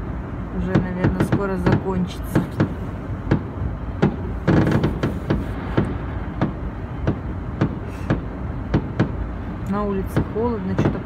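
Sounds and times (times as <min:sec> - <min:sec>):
muffled fireworks bangs: 0:00.6 - 0:11.0.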